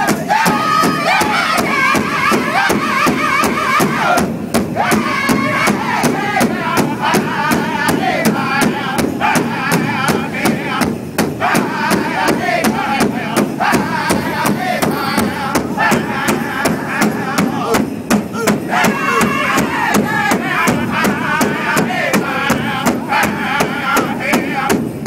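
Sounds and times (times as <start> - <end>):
group chanting in high voices: 0.0 - 24.9
steady drumbeat: 0.0 - 25.0.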